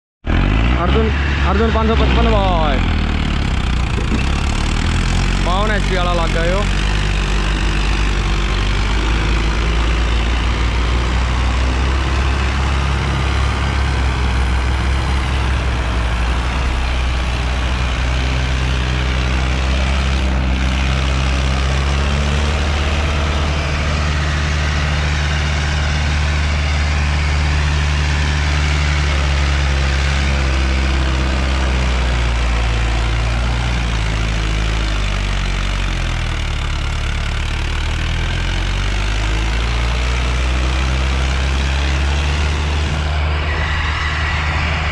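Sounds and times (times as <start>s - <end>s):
tractor diesel engine running: 0.2s - 44.9s.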